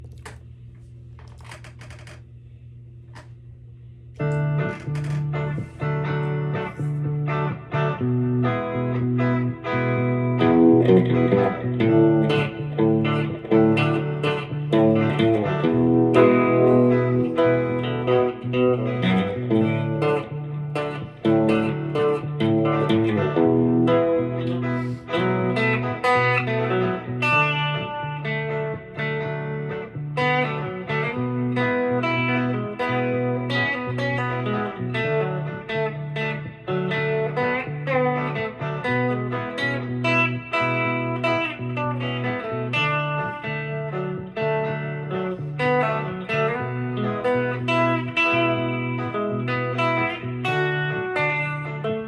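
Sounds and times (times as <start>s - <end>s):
low held bass notes: 3.3s - 52.0s
guitar picked melody: 4.2s - 52.0s.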